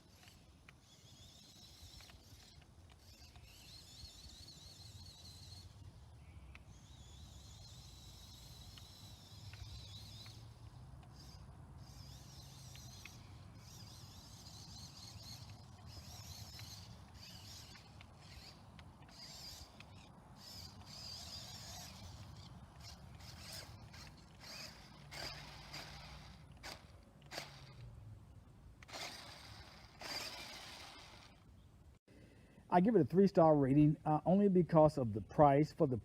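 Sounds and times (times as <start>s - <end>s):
small electric motor whining: 0.0s - 28.0s, 28.8s - 31.5s.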